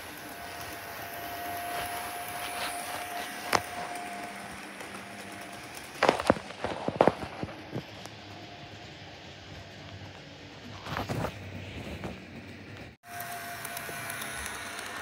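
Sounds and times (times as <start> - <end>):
model train motor whine: 0.0 - 10.6, 13.1 - 15.0
wheels rumbling on rail: 0.0 - 15.0.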